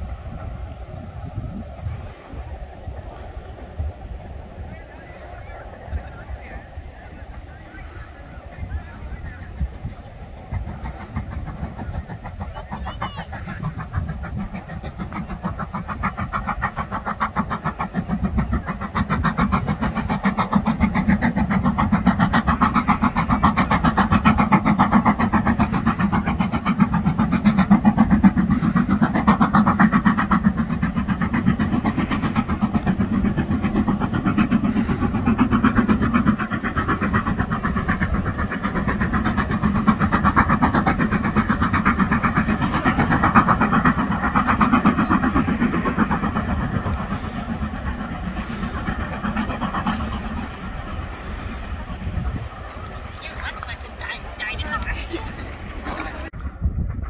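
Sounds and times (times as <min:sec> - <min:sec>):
steam locomotive chuffing: 0:00.0 - 0:57.0.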